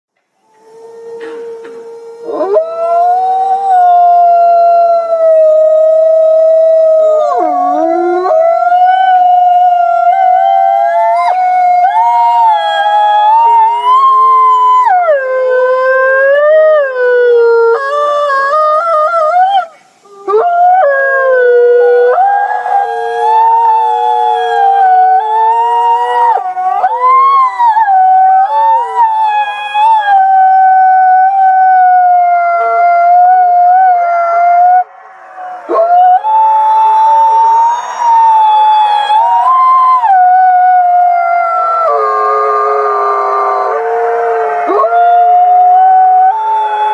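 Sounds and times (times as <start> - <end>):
wolves howling in chorus: 0.5 - 46.9.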